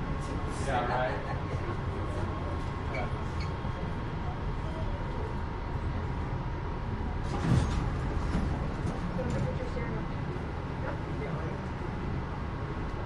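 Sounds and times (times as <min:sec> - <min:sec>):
train car rumbling: 0:00.0 - 0:13.0.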